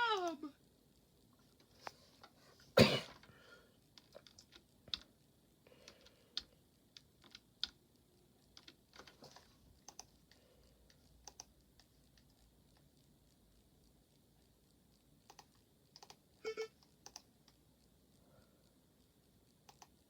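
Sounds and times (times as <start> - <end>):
faint clicks and taps: 1.0 - 20.0.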